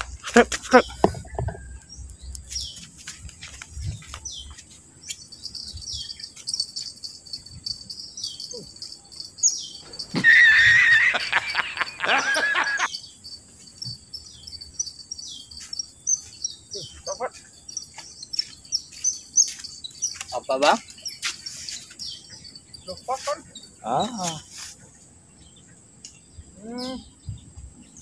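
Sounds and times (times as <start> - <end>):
high insect drone: 0.0 - 28.0
small birds chirping: 0.0 - 28.0.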